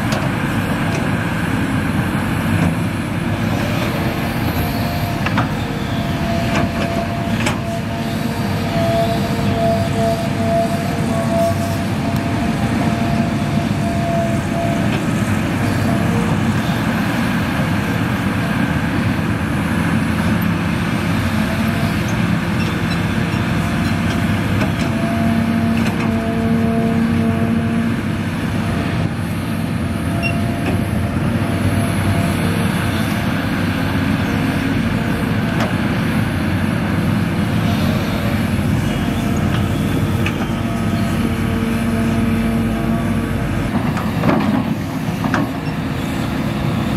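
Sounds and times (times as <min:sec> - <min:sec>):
excavator diesel engine under load: 0:00.0 - 0:46.9.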